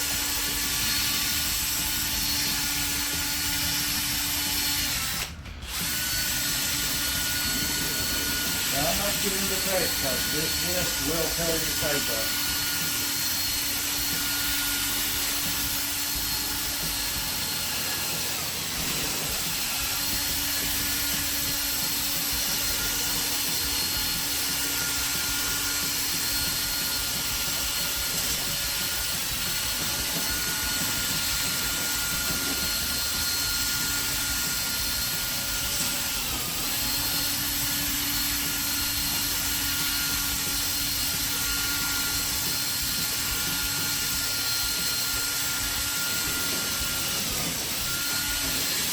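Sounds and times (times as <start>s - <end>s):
cordless drill motor whine: 0.0s - 48.9s.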